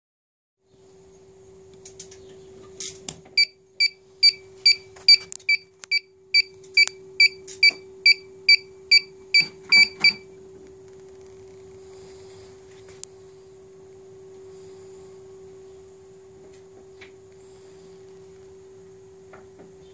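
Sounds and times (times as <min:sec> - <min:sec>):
low hum: 0:03.4 - 0:19.9.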